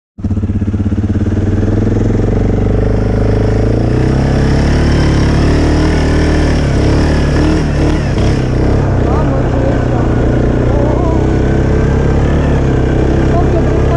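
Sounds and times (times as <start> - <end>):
atv engine running: 0.2 - 13.9.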